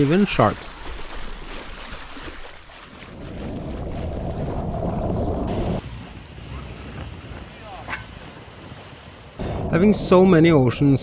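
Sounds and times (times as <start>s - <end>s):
sea waves: 0.0s - 11.0s
underwater rushing water: 0.0s - 11.0s
wind: 0.0s - 11.0s.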